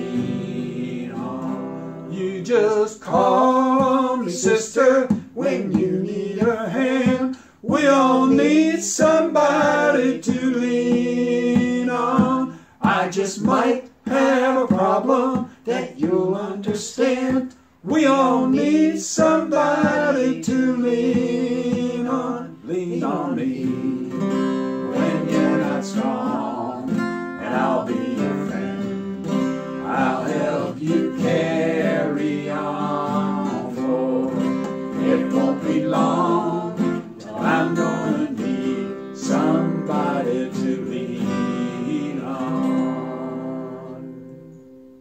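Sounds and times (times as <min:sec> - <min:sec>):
people singing: 0:00.0 - 0:44.6
acoustic guitars strumming: 0:00.0 - 0:45.0.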